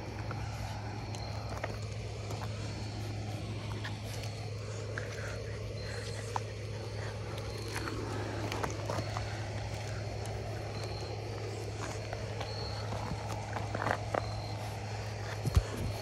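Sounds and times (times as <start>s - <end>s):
footsteps on gravel: 0.0s - 16.0s
puppy paws crunching gravel: 0.0s - 16.0s
steady low hum: 0.0s - 16.0s.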